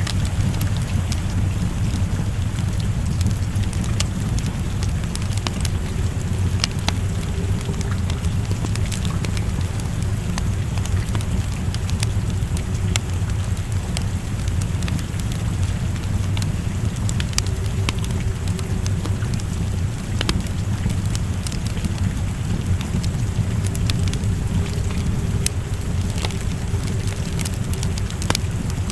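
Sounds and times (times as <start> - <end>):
rain rushing: 0.0 - 28.9
wood fire crackling and popping: 0.0 - 28.9.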